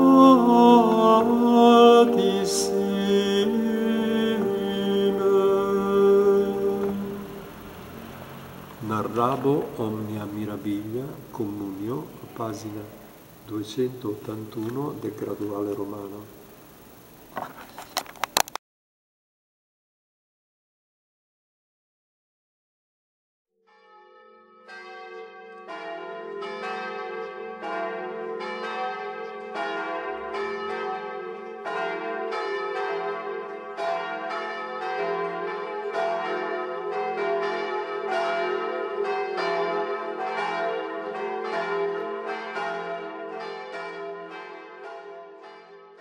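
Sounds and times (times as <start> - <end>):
church bells ringing: 0.0 - 17.2, 23.7 - 46.0.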